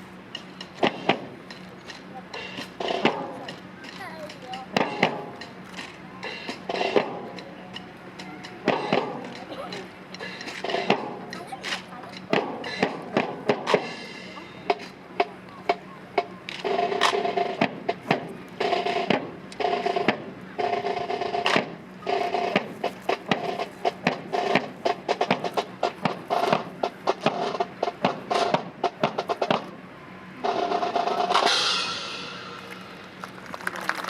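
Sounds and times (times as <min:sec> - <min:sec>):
snare drums marching cadence: 0:00.3 - 0:29.8, 0:30.4 - 0:34.0.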